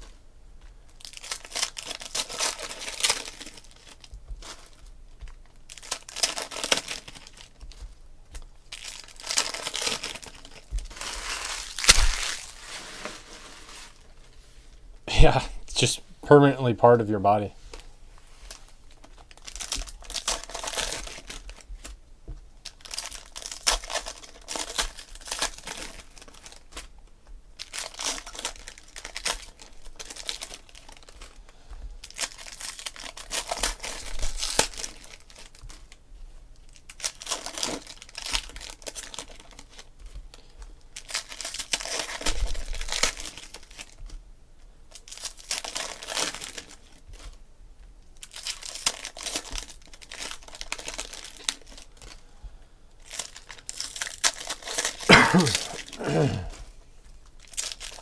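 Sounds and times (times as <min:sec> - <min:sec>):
foil wrappers tearing and crinkling: 0:00.9 - 0:14.2, 0:18.4 - 0:21.9, 0:22.6 - 0:26.9, 0:27.6 - 0:31.4, 0:32.0 - 0:36.0, 0:36.6 - 0:44.1, 0:44.9 - 0:47.4, 0:48.1 - 0:52.2, 0:53.0 - 0:56.4, 0:57.2 - 0:58.0.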